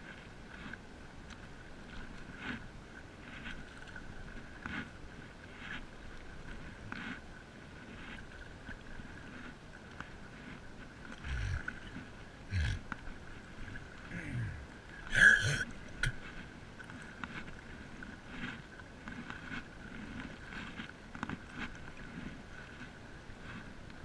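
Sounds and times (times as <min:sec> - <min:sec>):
paddle strokes in water: 0:00.0 - 0:24.0.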